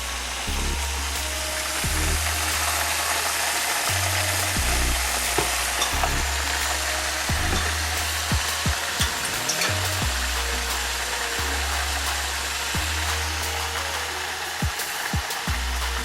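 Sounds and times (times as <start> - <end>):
background music with bassline: 0.0 - 16.0.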